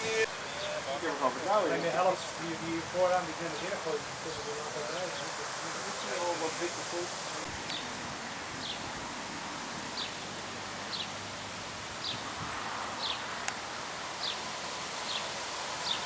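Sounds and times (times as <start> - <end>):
wind rustling leaves: 0.0 - 16.0.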